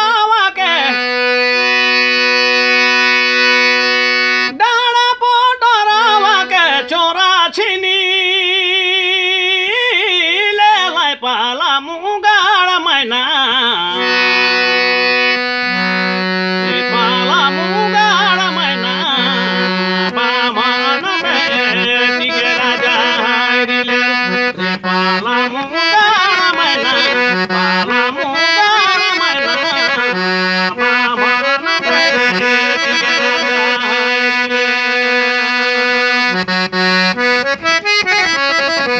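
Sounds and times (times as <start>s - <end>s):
folk music on reed keyboard: 0.0s - 38.9s.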